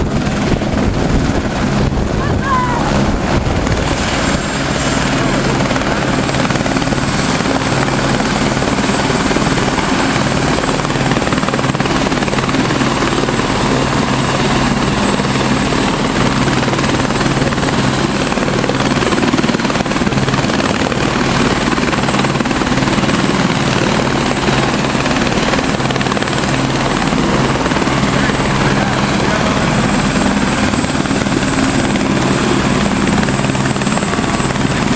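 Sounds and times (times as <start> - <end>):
helicopter rotor and engine drone: 0.0 - 34.9.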